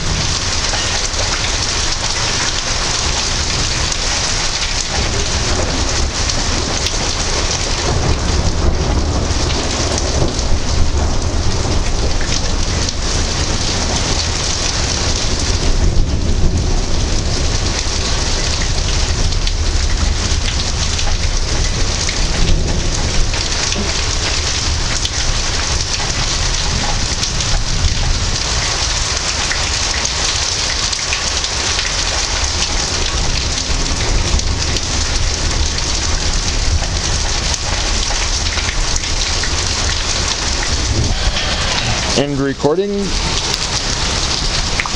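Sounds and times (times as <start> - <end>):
heavy rain falling: 0.0 - 44.9
thunder rumbling: 0.0 - 44.9.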